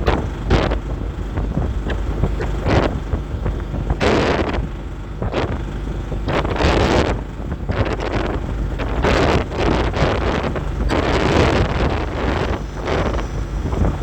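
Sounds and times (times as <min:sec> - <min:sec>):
steady low rumble: 0:00.0 - 0:14.0
wind buffeting microphone: 0:00.0 - 0:14.0.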